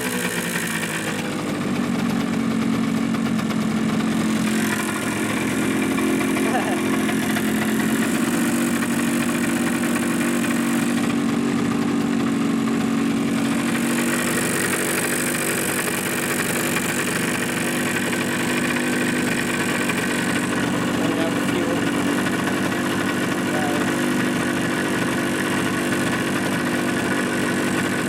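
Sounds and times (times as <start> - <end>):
two-stroke engine idling rough: 0.0 - 28.0.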